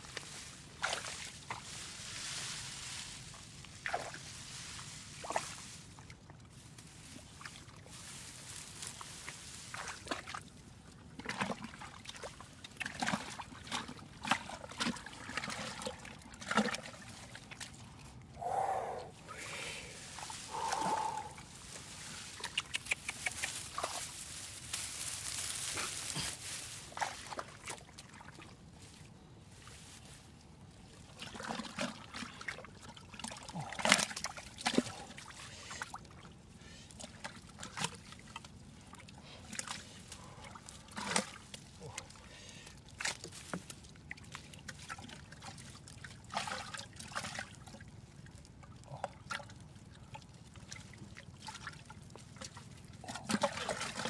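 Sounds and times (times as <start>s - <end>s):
hands squelching in wet mud: 0.0s - 54.0s.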